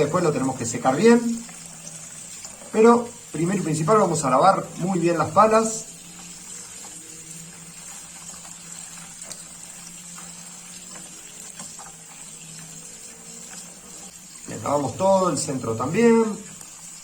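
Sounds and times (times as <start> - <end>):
tap water running over plastic: 0.0 - 17.0.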